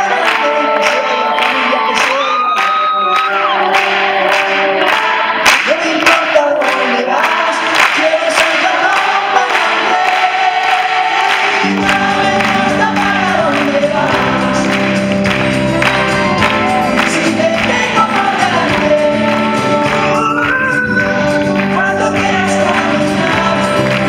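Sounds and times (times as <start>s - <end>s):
live band playing: 0.0s - 6.5s, 9.1s - 24.0s
crowd singing: 0.0s - 24.0s.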